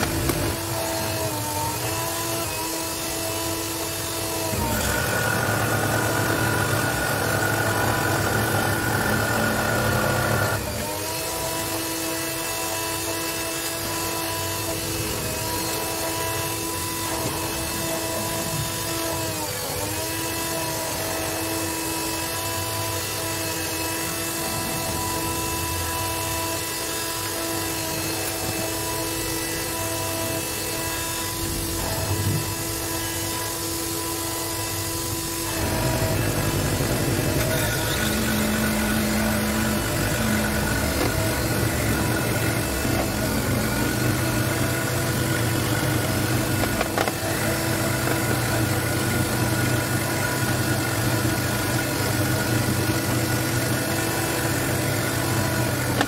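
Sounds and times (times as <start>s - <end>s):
saw blade cutting acrylic: 0.0s - 56.0s
scroll saw motor humming: 0.0s - 56.0s.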